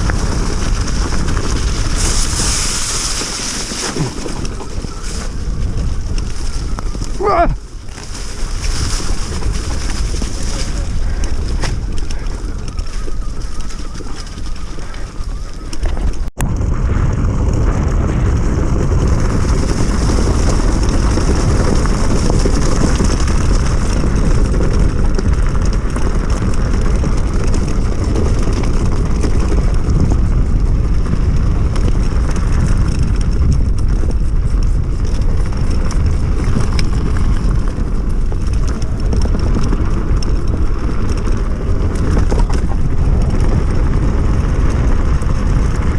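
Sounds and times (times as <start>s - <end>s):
tyre noise: 0.0s - 45.9s
wind on microphone: 0.0s - 45.9s.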